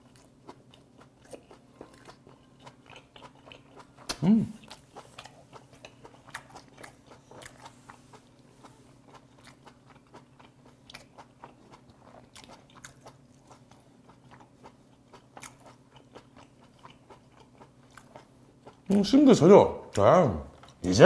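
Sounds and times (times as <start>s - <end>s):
mouth chewing wet smacks: 0.0s - 19.2s.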